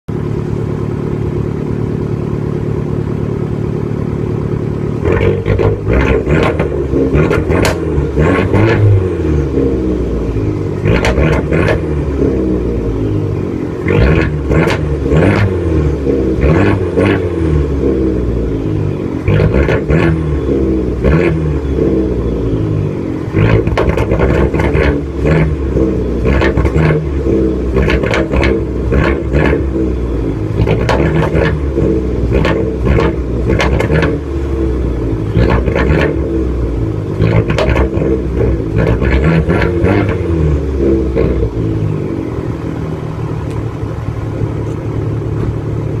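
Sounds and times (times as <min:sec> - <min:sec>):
car engine idling: 0:00.1 - 0:46.0
car engine revving: 0:00.1 - 0:46.0.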